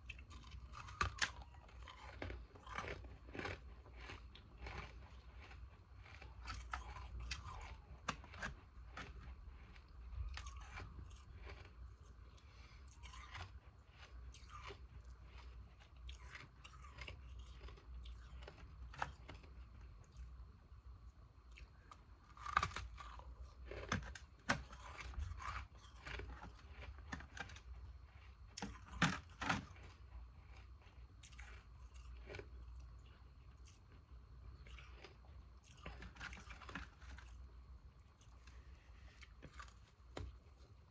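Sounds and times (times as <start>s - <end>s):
ice being chewed: 0.0s - 20.4s, 21.4s - 40.9s.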